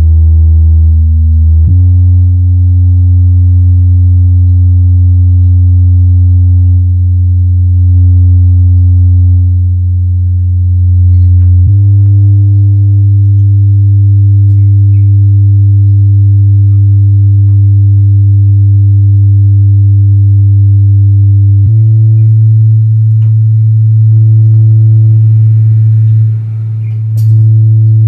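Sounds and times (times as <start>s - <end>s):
low test tone from subwoofers: 0.0s - 28.0s.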